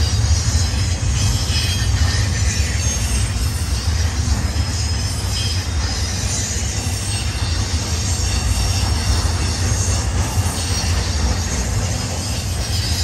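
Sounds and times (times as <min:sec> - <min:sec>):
high-pitched wheel squeal: 0:00.0 - 0:13.0
train wheels rumbling on rail: 0:00.0 - 0:13.0.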